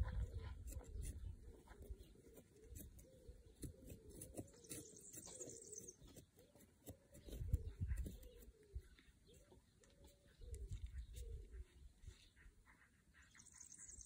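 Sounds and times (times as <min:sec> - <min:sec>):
dove cooing: 0:00.0 - 0:12.5
hands working soil and pots: 0:00.0 - 0:12.6.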